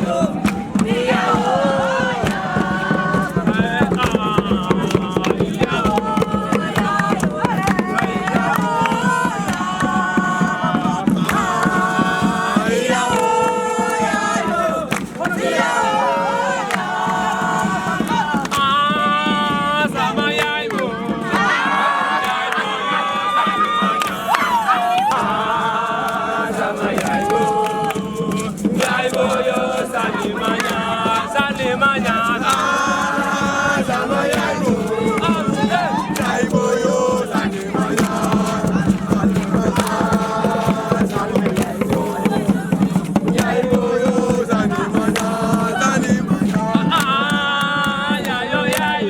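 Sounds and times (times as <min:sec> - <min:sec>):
group of voices chanting: 0:00.0 - 0:49.0
steady beat: 0:00.0 - 0:49.0.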